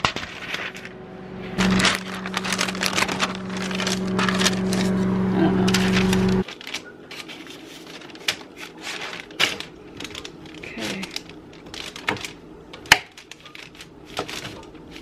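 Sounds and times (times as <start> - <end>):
parchment paper rustling: 0.0 - 1.0, 1.6 - 15.0.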